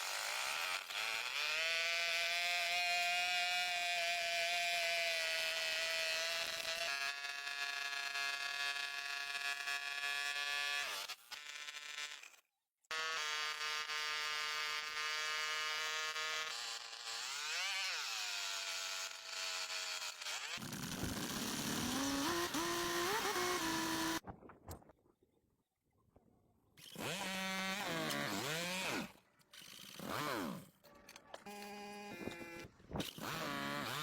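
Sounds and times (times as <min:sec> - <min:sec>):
small motor whining: 0:00.0 - 0:24.2, 0:26.8 - 0:34.0.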